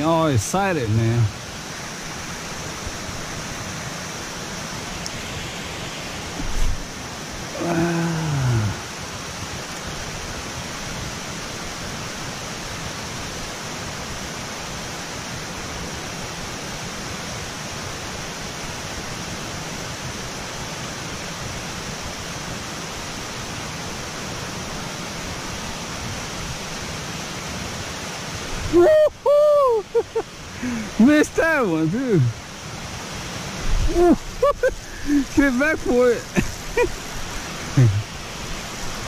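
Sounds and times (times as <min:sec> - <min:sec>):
water rushing through spillway: 0:00.0 - 0:39.0.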